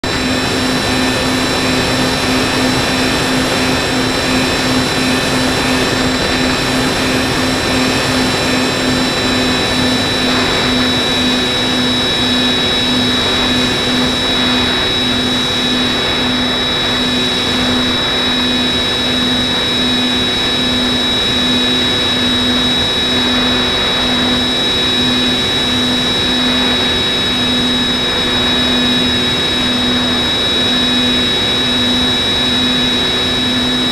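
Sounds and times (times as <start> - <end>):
model aircraft motor whine: 0.0 - 33.9.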